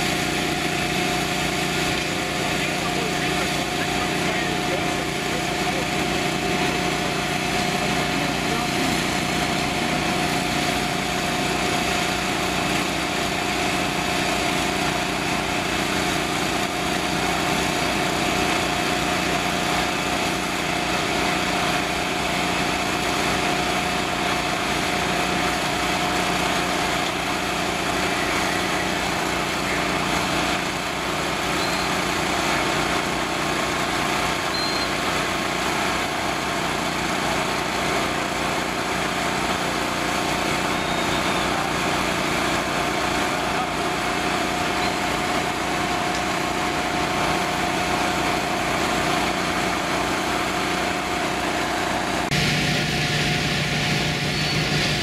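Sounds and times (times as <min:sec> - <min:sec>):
fire engines idling: 0:00.0 - 0:55.0.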